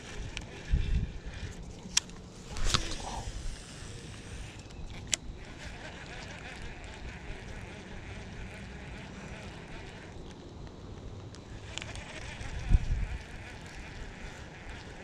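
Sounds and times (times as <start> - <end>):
wind on microphone: 0.0 - 10.1, 11.5 - 15.0
fishing reel cranking: 0.0 - 10.3, 11.5 - 15.0.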